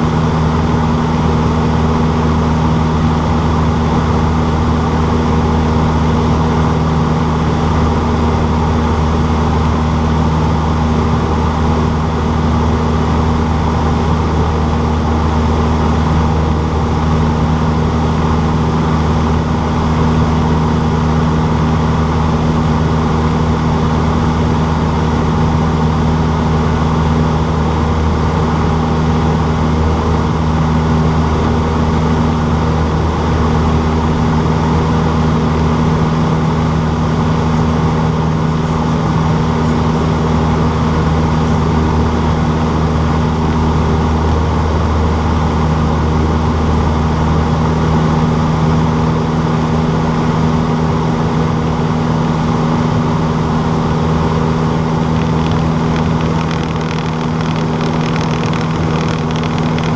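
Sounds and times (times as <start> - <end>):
small plane engine droning: 0.0 - 59.9.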